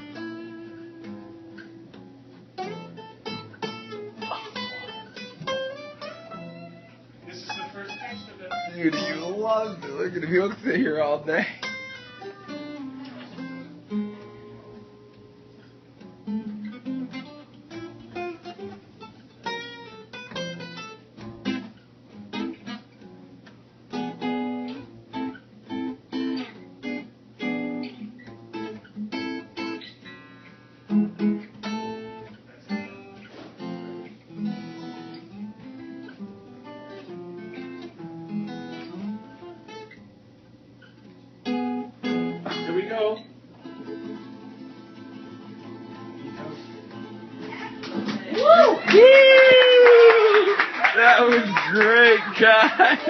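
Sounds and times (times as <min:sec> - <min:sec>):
acoustic guitar playing: 0:00.0 - 0:53.0.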